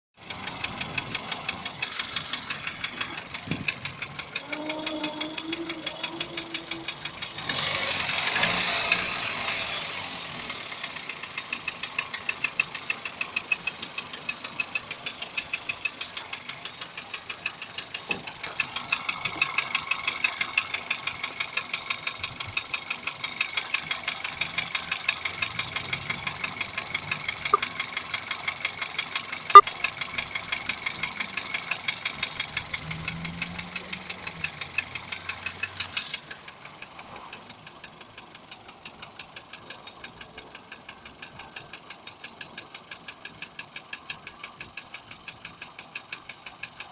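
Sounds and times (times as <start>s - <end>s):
car engine knocking: 0.2s - 46.9s.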